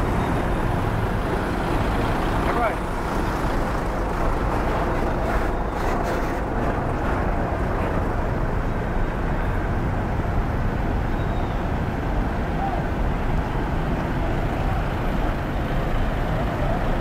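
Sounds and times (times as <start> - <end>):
bus engines rumbling: 0.0 - 17.0
traffic noise: 0.0 - 17.0.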